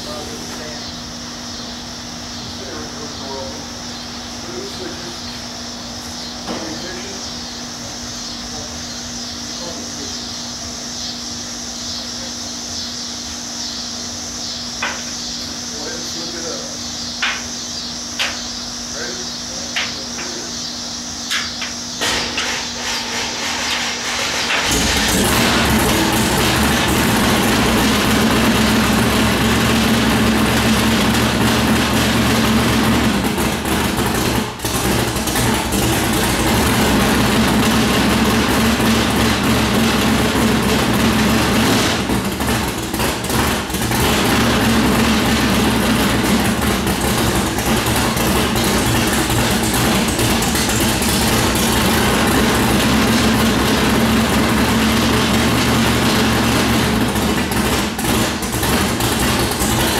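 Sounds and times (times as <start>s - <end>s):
loud engine idling: 0.0s - 12.6s, 13.2s - 59.9s.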